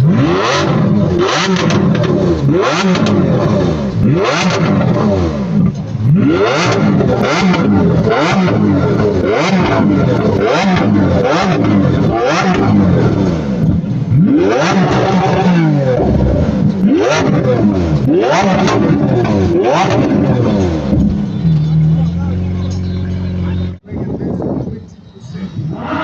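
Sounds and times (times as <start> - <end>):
car engine revving: 0.0 - 24.7, 25.3 - 26.0.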